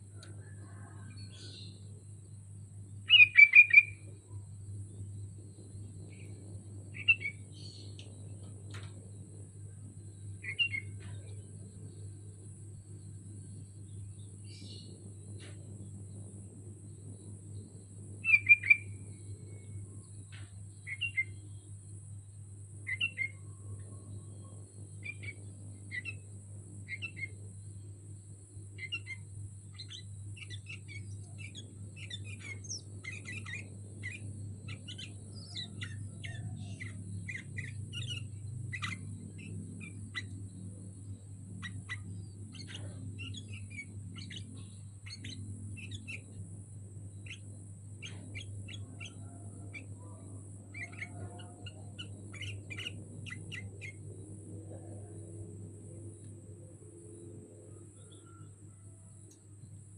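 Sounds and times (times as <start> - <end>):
steady low hum: 0.0 - 59.9
bird chirping: 0.2 - 16.3, 17.0 - 59.9.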